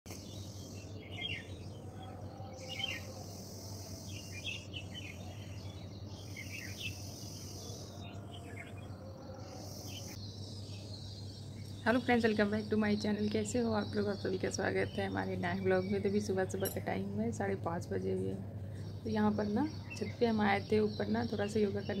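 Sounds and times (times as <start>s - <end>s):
birds chirping: 0.1s - 22.0s
low steady hum: 0.2s - 22.0s.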